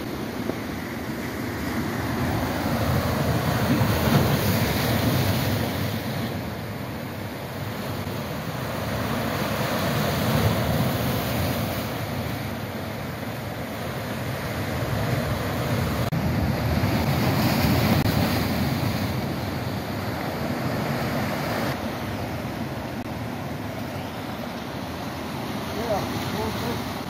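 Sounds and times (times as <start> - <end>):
surf breaking on rocky shore: 0.0 - 27.0.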